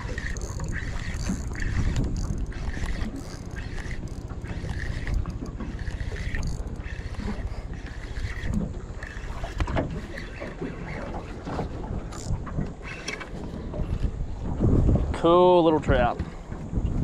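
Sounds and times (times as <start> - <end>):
moving water: 0.0 - 17.0
wind buffeting microphone: 0.0 - 17.0.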